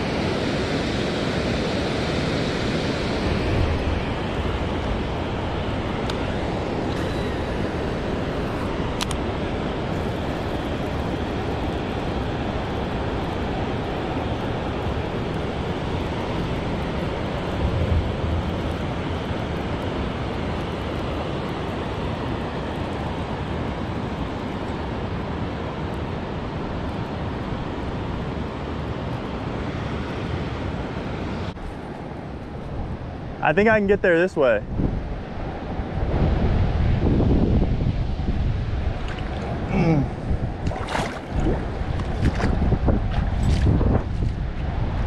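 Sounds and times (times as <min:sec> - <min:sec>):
river water rushing over rocks: 0:00.0 - 0:32.6, 0:38.7 - 0:45.0.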